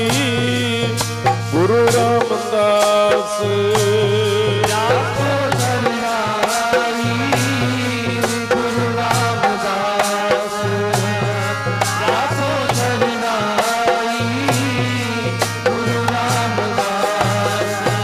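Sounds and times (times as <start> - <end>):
dholak drum beaten by hand: 0.0 - 18.0
harmonium melody: 0.0 - 18.0.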